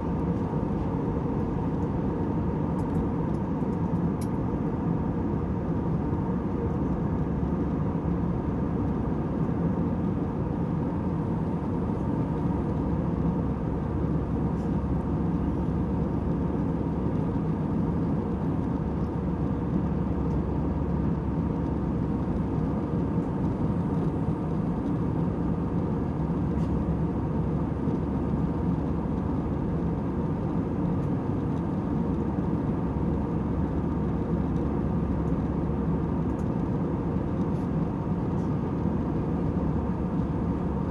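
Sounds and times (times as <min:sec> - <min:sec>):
jet engine and airflow hum: 0:00.0 - 0:40.9.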